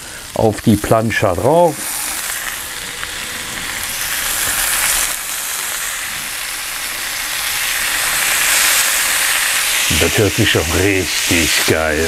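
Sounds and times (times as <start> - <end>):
food sizzling on a hot plate: 0.0 - 12.0.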